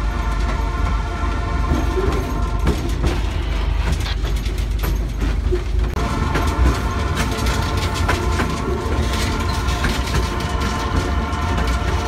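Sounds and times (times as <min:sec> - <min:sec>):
train rumble and clatter: 0:00.0 - 0:12.0
wheel clicks on rails: 0:01.7 - 0:12.0.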